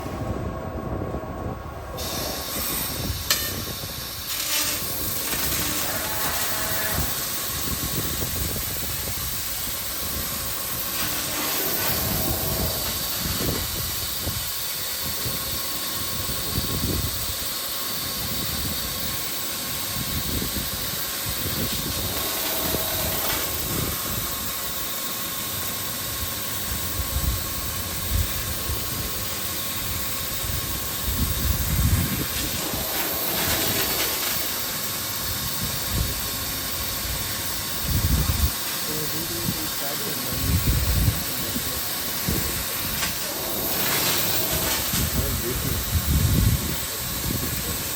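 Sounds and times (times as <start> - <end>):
faint steady whine: 0.0 - 47.9
laser cutting machine hiss: 1.9 - 47.9.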